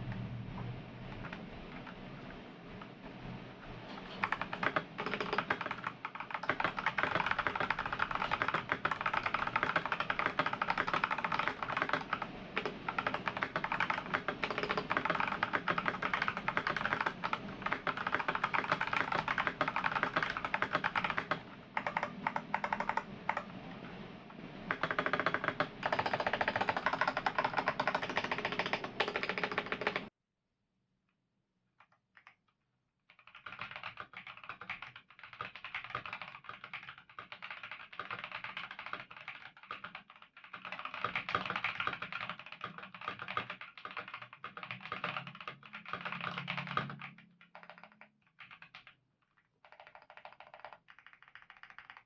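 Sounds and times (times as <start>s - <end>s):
mechanical keyboard typing: 0.0s - 2.3s, 3.9s - 24.0s, 24.6s - 30.1s, 33.1s - 52.0s.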